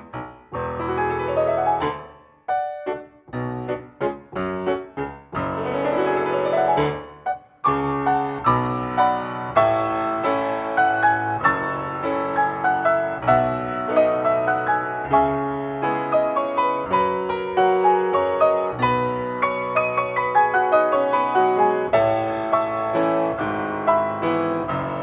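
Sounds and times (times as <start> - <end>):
grand piano playing classical piece: 0.0 - 25.0.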